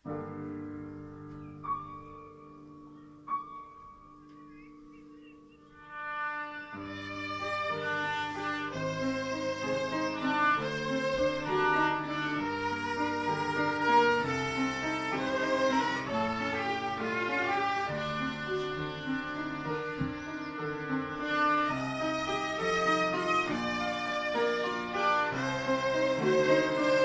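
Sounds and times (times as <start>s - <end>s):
bowed fiddles playing melody: 4.2s - 27.0s.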